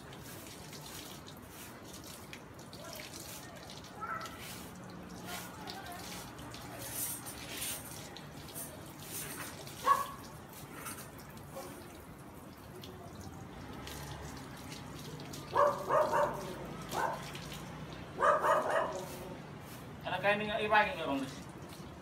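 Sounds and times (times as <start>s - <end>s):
hose water splashing on tiles: 0.0s - 22.0s.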